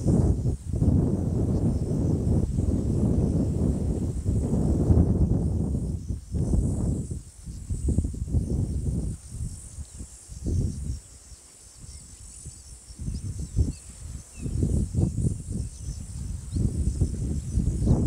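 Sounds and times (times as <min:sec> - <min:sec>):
insect chorus buzzing: 0:00.0 - 0:18.0.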